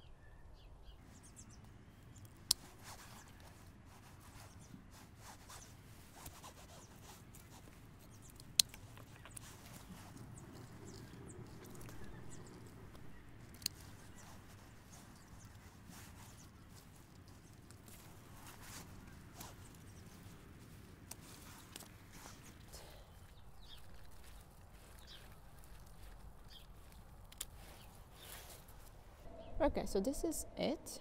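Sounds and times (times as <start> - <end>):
rustling foliage: 0.9 - 29.3
secateurs snipping stems: 2.0 - 28.9.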